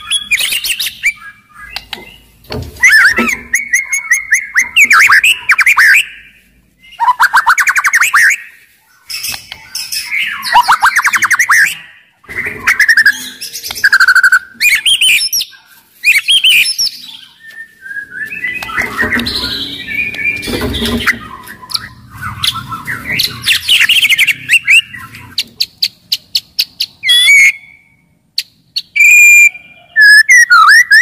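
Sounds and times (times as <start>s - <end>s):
bird singing trills and whistles: 0.0s - 31.0s.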